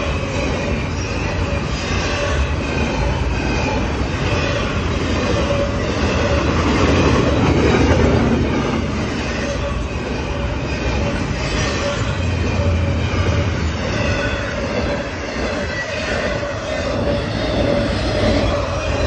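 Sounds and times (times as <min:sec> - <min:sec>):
crossing bell ringing: 0:00.0 - 0:19.0
freight cars rolling on rails: 0:00.0 - 0:19.0.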